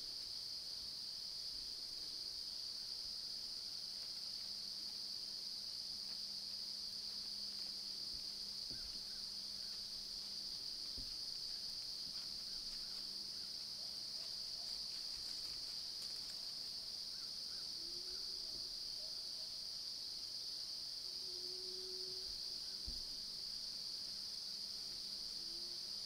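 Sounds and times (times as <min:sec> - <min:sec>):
insect chorus droning: 0:00.0 - 0:26.0.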